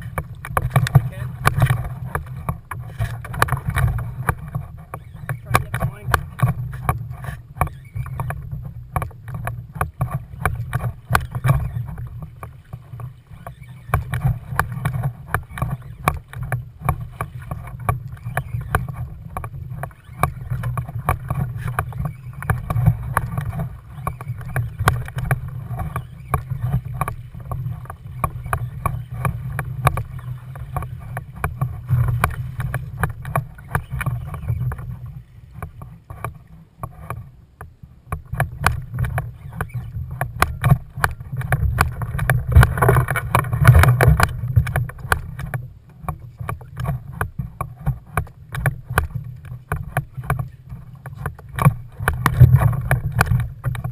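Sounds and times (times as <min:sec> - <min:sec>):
gear knocking against kayak: 0:00.0 - 0:53.9
wind rumbling on microphone: 0:00.0 - 0:53.9.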